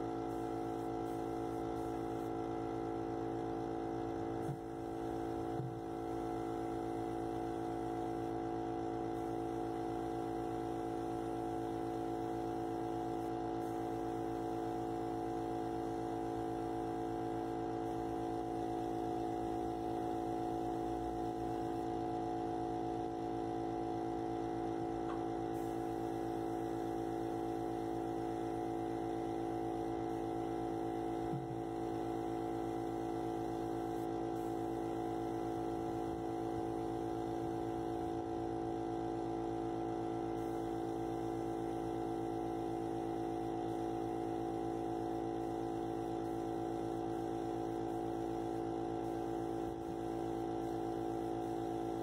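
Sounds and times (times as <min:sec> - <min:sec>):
spray-painting machine hum: 0:00.0 - 0:52.0.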